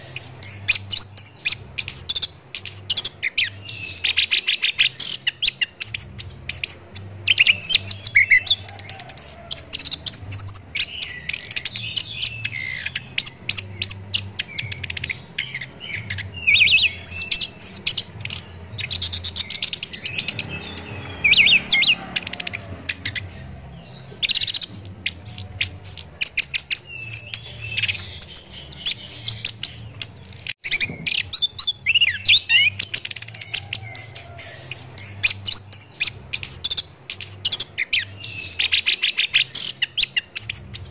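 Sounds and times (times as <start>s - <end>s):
thrush singing: 0.0s - 40.9s.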